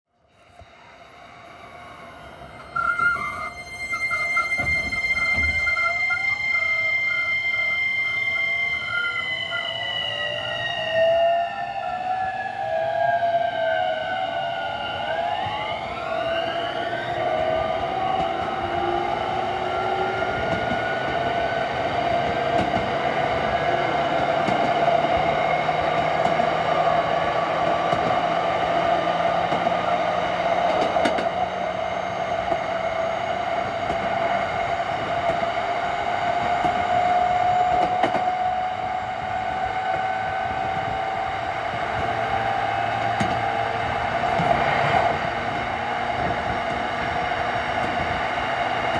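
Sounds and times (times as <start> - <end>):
rail running noise: 0.2 - 48.9
electric train inverter whining: 0.3 - 48.9.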